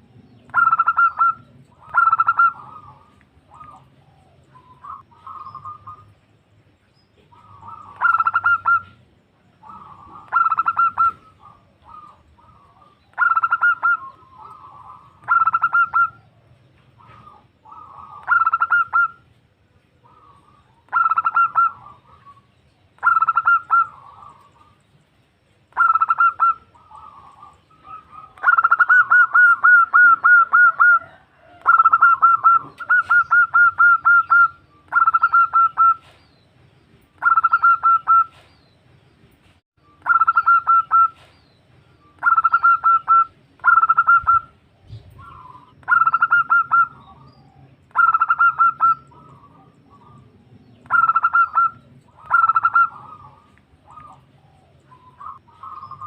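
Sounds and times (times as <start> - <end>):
dove cooing: 0.0 - 6.2, 7.2 - 19.3, 20.0 - 24.8, 25.7 - 36.2, 37.2 - 38.5, 40.0 - 41.4, 42.1 - 56.0.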